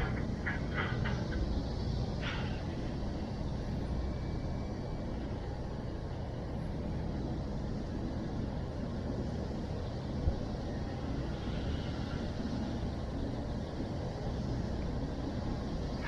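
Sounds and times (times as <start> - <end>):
low rumbling noise: 0.0 - 16.0.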